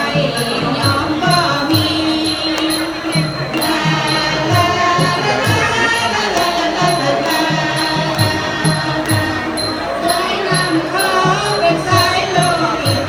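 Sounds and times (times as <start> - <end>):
folk dance music: 0.0 - 13.0.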